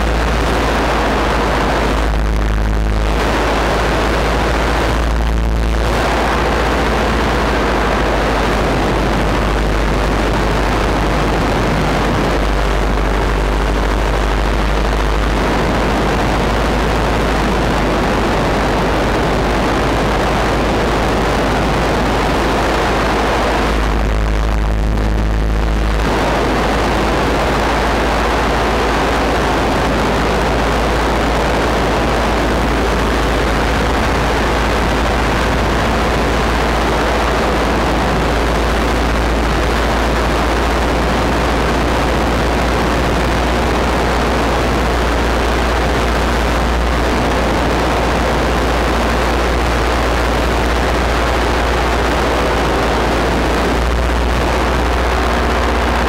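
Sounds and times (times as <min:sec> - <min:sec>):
paramotor engine and propeller: 0:00.0 - 0:56.0
wind rush on microphone: 0:00.0 - 0:56.0.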